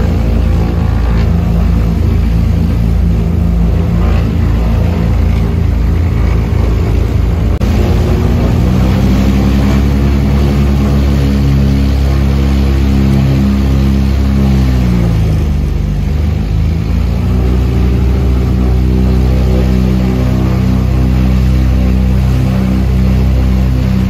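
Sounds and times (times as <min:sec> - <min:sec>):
twin propeller engines running: 0:00.0 - 0:24.0.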